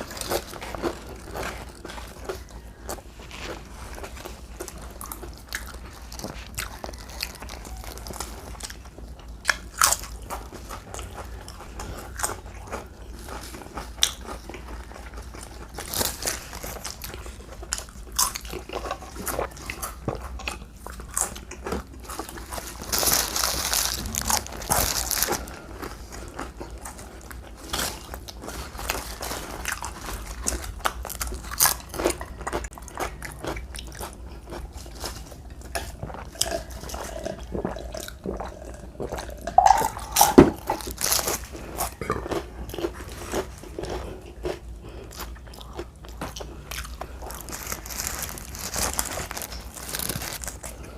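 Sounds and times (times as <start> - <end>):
crunchy chewing: 0.0 - 50.9.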